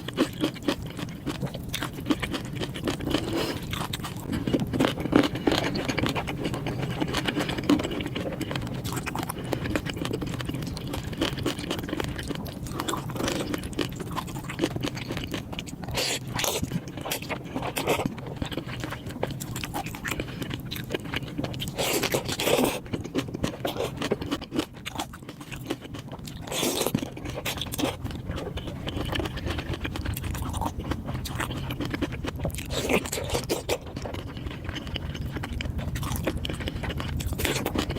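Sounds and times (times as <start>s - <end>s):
wet chewing and crunching: 0.0s - 37.9s.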